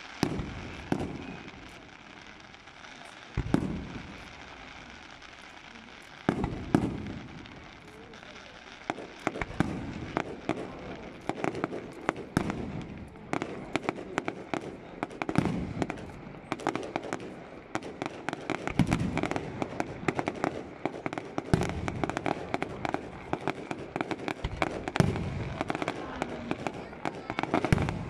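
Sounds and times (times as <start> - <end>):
deep fireworks booms: 0.0 - 28.0
fireworks bursting: 0.0 - 28.0
sharp bangs and crackling: 0.0 - 28.0.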